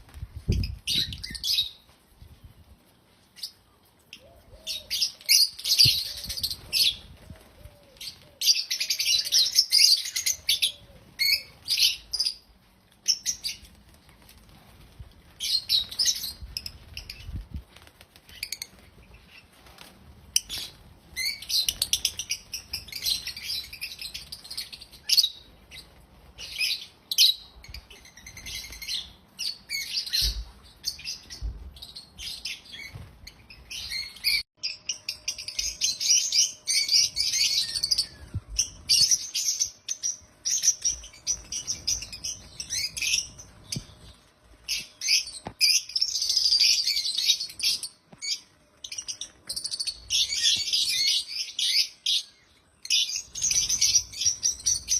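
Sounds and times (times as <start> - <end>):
lovebirds chirping: 0.4 - 13.9, 15.3 - 54.9.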